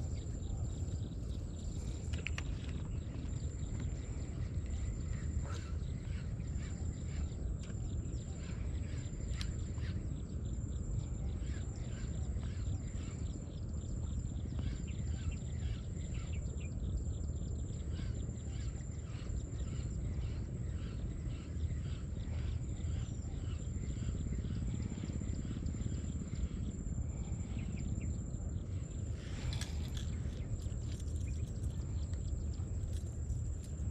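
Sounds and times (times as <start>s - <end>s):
pulsing insect trill: 0.0s - 33.9s
wind rumble on microphone: 0.0s - 33.9s.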